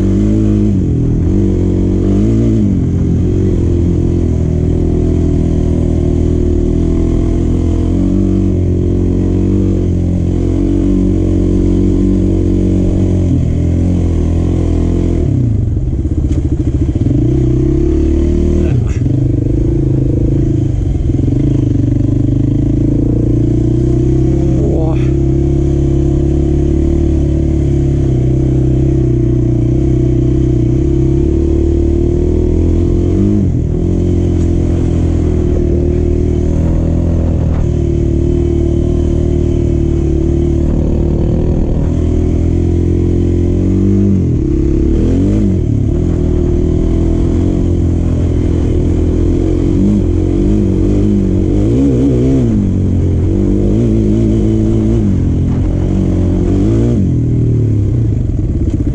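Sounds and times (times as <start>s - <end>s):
quad bike engine revving: 0.0s - 58.9s.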